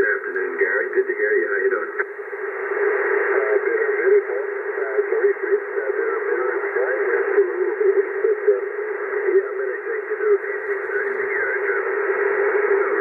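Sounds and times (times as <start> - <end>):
radio static through speaker: 0.0 - 13.0.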